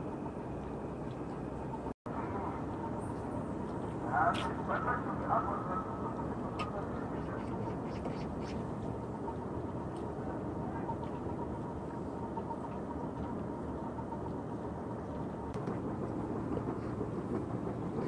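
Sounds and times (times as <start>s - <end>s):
faint whine: 0.0s - 18.0s
low seaside rumble: 0.0s - 18.0s.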